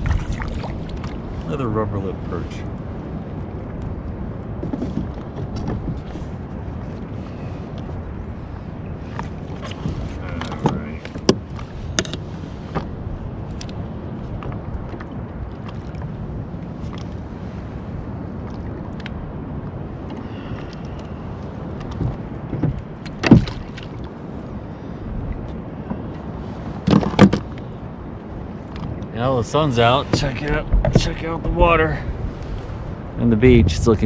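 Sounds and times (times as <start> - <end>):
water noise around a kayak: 0.0 - 34.0.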